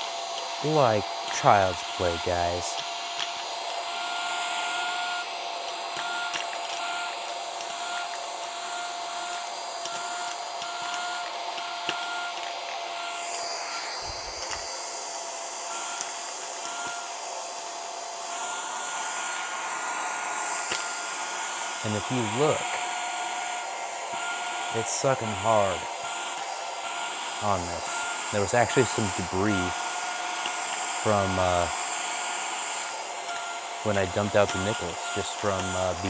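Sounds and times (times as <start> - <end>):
handheld vacuum running: 0.0 - 36.0.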